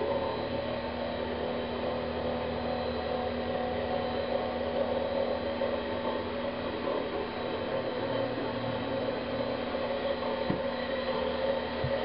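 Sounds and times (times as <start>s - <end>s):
mechanical hum of equipment: 0.0s - 12.0s.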